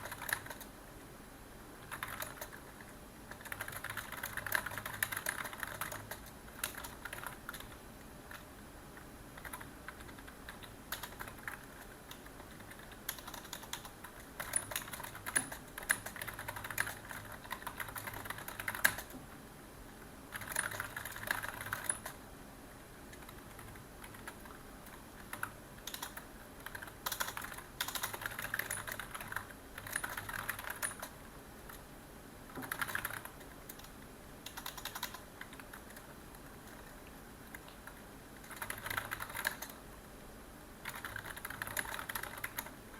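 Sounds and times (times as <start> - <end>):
keyboard typing: 0.0 - 0.8, 1.8 - 19.2, 20.3 - 22.2, 23.1 - 31.8, 32.5 - 39.8, 40.8 - 42.8.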